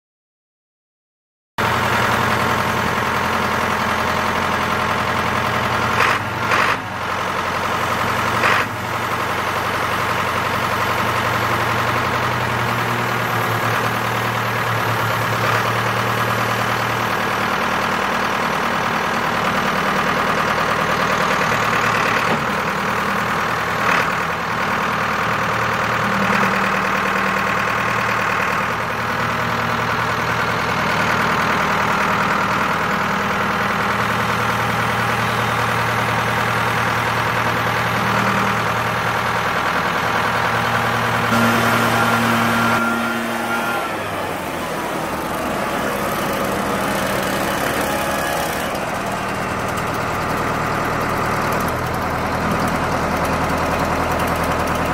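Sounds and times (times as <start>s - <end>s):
diesel engine running: 1.6s - 54.9s.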